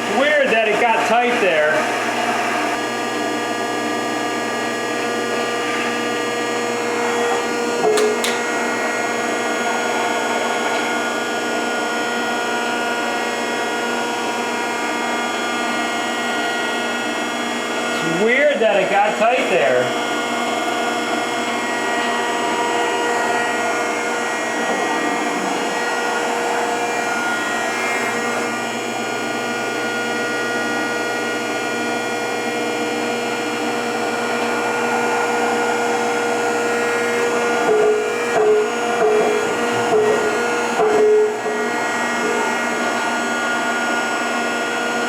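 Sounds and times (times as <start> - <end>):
planer machine whining: 0.0 - 45.0.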